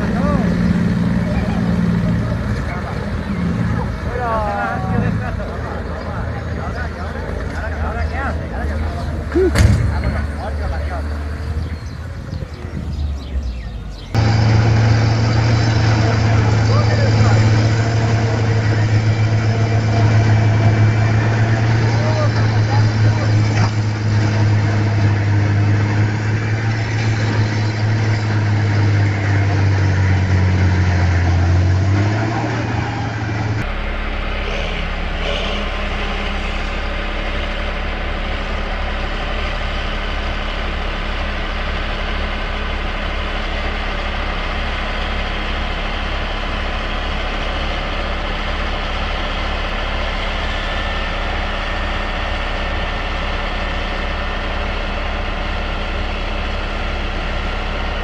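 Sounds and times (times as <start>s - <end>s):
engine with fast low pulse: 0.0s - 58.0s
heavy vehicle engine running: 0.0s - 58.0s.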